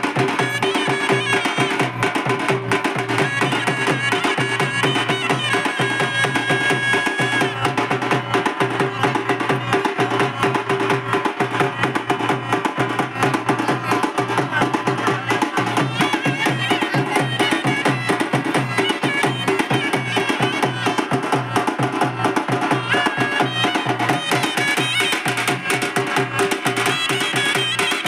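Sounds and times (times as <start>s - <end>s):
fast drum beat: 0.0s - 28.0s.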